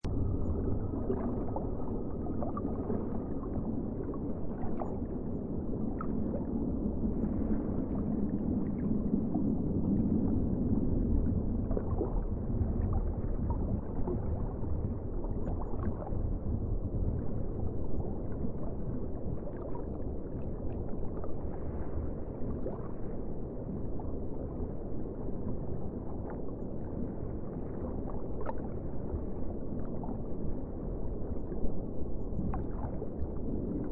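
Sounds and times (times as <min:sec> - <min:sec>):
muffled underwater rumble: 0:00.0 - 0:33.9.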